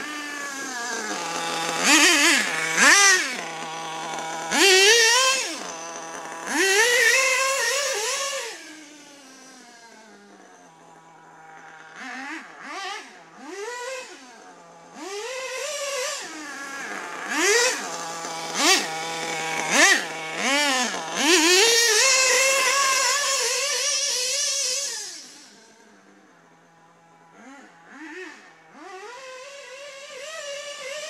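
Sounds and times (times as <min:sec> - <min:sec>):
small nitro engine revving: 0:00.0 - 0:31.0.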